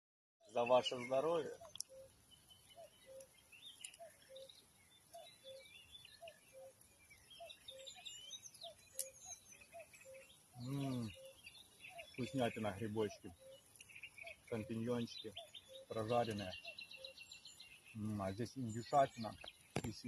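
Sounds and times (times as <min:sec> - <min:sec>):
high bird chirps: 0:00.4 - 0:20.0.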